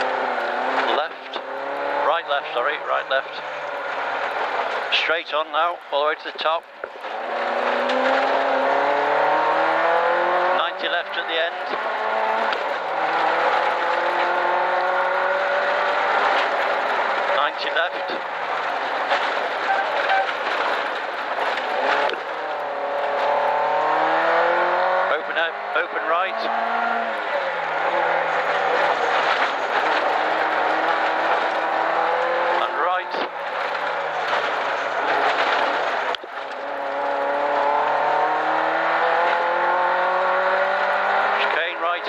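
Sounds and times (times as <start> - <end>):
car engine at speed: 0.0 - 42.0
tyre and road noise: 0.0 - 42.0.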